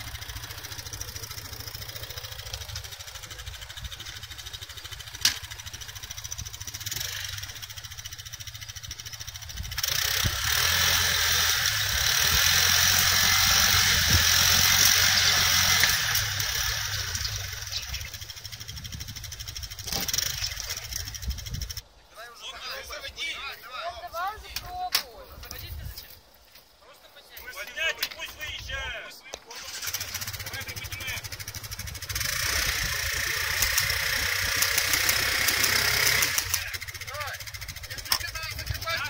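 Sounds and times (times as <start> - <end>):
buggy and pickup engines revving: 0.0 - 21.9, 29.5 - 39.0.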